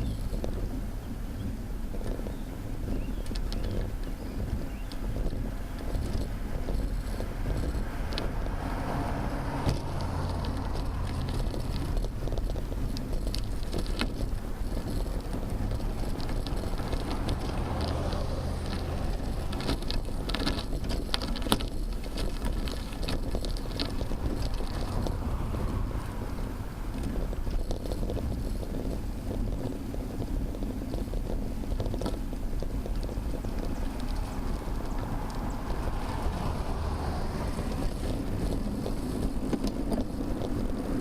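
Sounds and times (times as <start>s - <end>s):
road and traffic rumble: 0.0s - 41.0s
wind on microphone: 0.0s - 41.0s
clicks and rattles: 3.2s - 41.0s.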